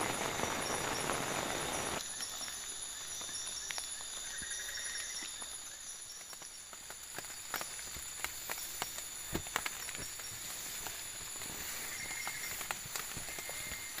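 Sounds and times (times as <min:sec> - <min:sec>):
insects chirring: 0:00.0 - 0:14.0
steady rain: 0:00.0 - 0:14.0
ticks and drips: 0:00.0 - 0:14.0.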